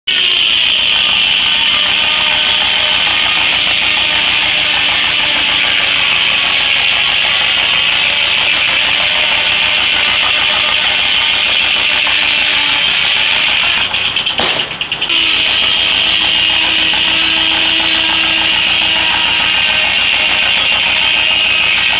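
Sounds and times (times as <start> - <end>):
circular saw blade cutting log: 0.1 - 21.9
tractor engine pulsing: 0.1 - 21.9.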